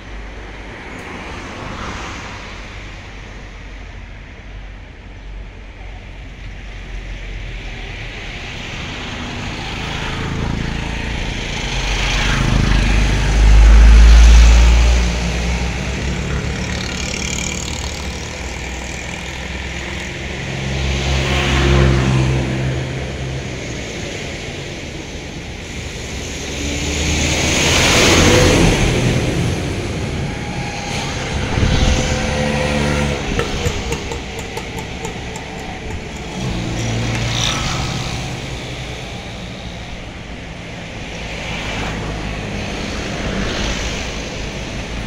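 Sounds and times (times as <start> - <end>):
passing motor vehicles: 0.0 - 45.0.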